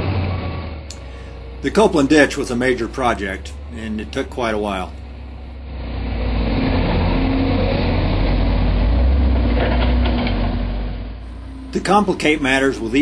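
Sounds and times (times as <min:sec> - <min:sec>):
heavy machinery engine rumble: 0:00.0 - 0:13.0.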